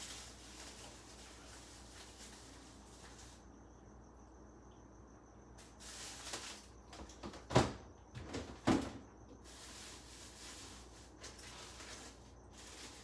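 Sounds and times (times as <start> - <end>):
rustling and handling in refrigerator: 0.0 - 3.4, 5.6 - 13.0.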